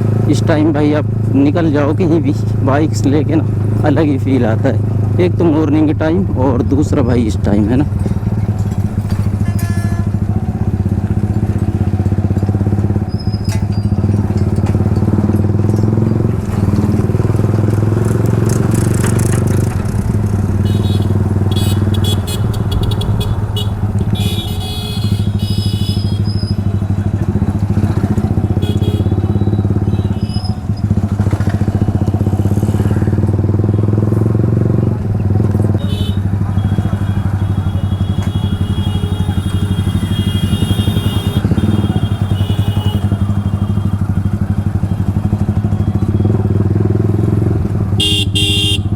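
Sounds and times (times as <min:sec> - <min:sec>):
motorcycle engine droning: 0:00.0 - 0:48.9.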